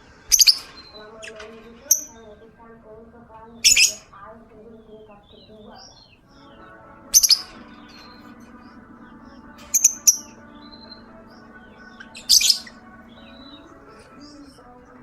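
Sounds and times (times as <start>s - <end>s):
soft background music: 0.0s - 15.0s
bird chirping shrilly: 0.3s - 2.4s, 3.6s - 4.2s, 4.8s - 14.5s.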